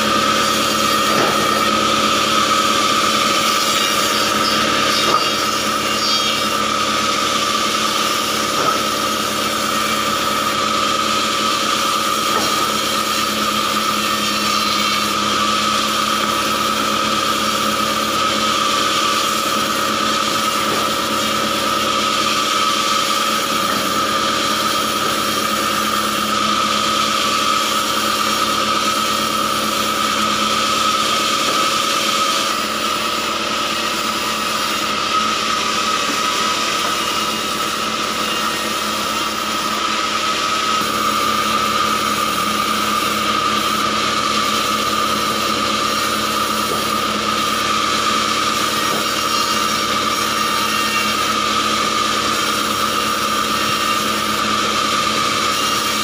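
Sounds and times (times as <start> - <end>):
band saw high whine: 0.0 - 56.0.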